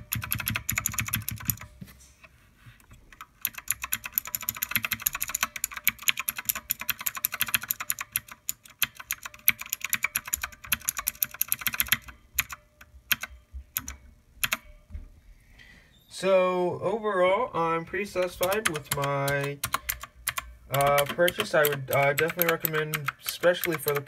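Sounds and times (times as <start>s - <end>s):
mechanical keyboard typing: 0.0s - 1.7s, 2.9s - 14.7s, 18.0s - 24.0s.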